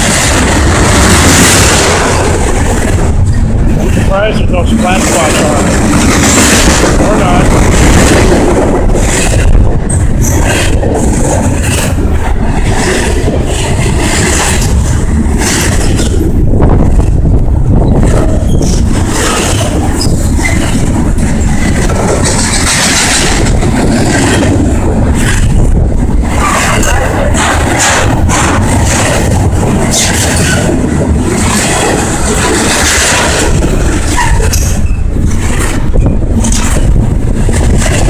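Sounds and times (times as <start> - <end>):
train clatter: 0.0 - 38.0
train wheels rumbling on rail: 0.0 - 38.0.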